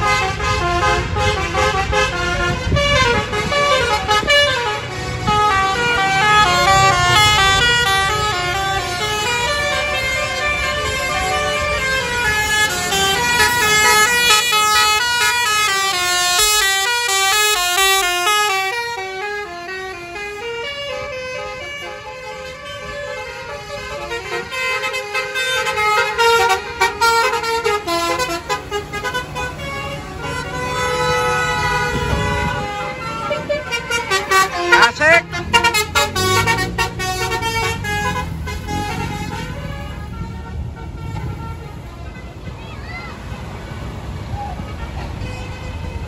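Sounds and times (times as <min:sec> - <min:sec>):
melodic bus air horns: 0:00.0 - 0:42.5, 0:44.0 - 0:46.0
bus rumbling past: 0:00.0 - 0:46.0.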